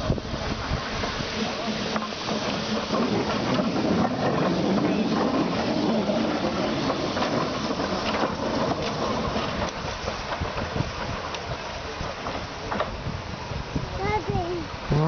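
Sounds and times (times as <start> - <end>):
locomotive running gear on rails: 0.0 - 15.0
steam hissing: 0.0 - 15.0.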